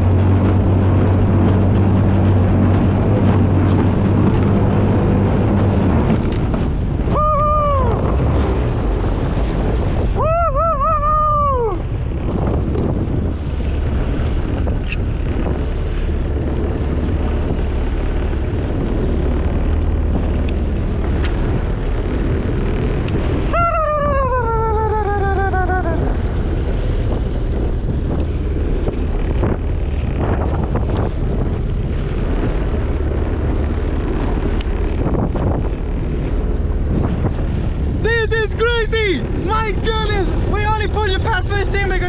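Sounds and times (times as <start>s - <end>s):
jet kayak engine running: 0.0s - 42.0s
water rushing: 0.0s - 42.0s
wind buffeting microphone: 0.0s - 42.0s.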